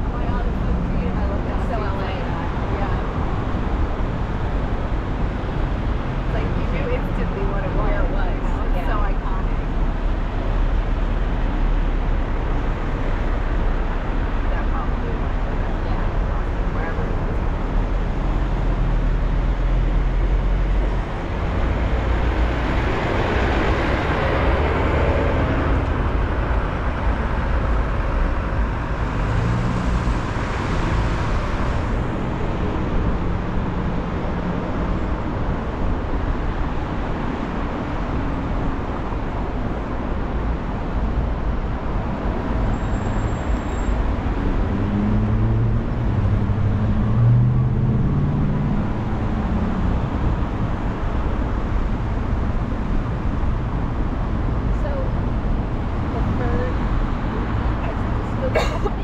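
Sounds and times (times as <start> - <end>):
surrounding traffic: 0.0 - 59.0
tyre and wind roar: 0.0 - 59.0
vehicles passing close: 0.0 - 59.0.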